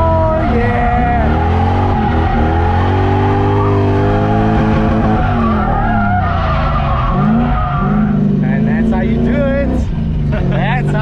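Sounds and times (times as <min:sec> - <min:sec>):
car engine revving hard: 0:00.0 - 0:11.0
tyres skidding: 0:00.0 - 0:11.0.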